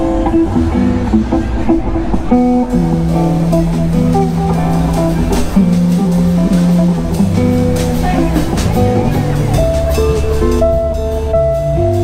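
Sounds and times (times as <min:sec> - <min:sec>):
drum kit: 0:00.0 - 0:12.0
electric guitars picking notes: 0:00.0 - 0:12.0.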